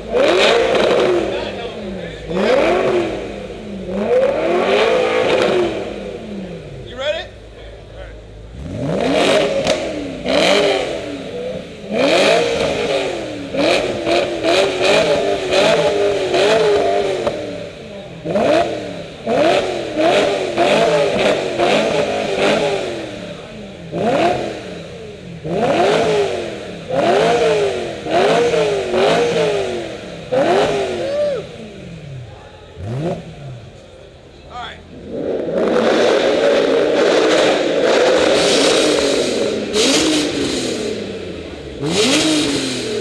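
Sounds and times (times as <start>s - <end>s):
car engine revving in blips: 0.0s - 43.0s.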